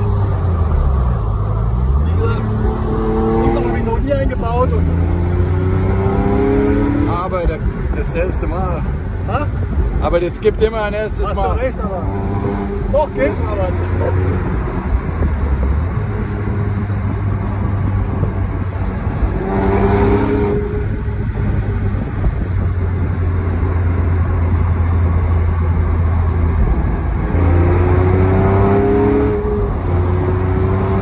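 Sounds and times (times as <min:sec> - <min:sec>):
car engine accelerating: 0:00.0 - 0:31.0
road noise in car cabin: 0:00.0 - 0:31.0.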